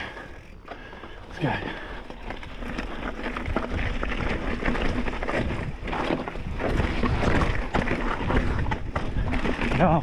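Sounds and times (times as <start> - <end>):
bike clacking and rattling: 0.0 - 10.0
tyres crunching over rock and dirt: 0.0 - 10.0
wind buffeting microphone: 1.4 - 10.0.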